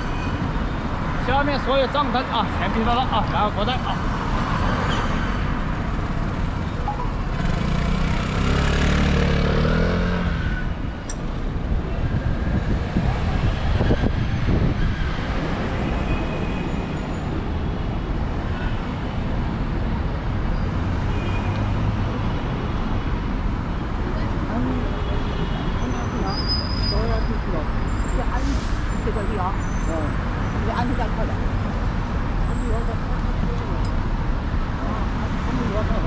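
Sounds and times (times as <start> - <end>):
road traffic noise: 0.0 - 36.0.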